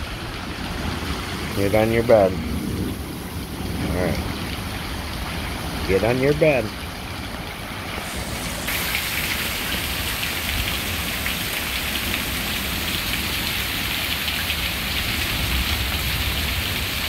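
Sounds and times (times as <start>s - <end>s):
rain on pavement: 0.0s - 17.0s.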